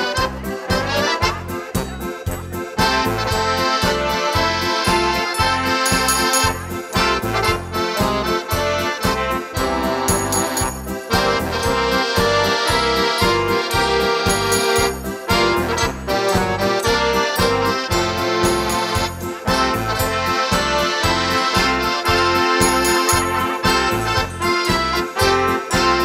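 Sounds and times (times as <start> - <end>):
band playing instrumental music: 0.0 - 26.0.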